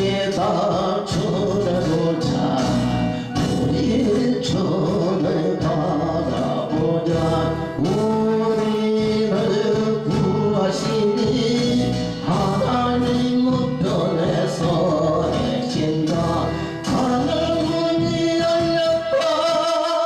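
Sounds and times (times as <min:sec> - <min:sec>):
instrumental accompaniment with beat: 0:00.0 - 0:20.0
person singing long notes: 0:00.0 - 0:20.0.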